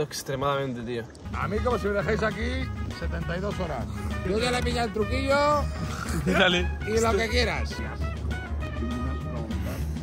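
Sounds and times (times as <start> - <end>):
background music with bass: 1.2 - 10.0.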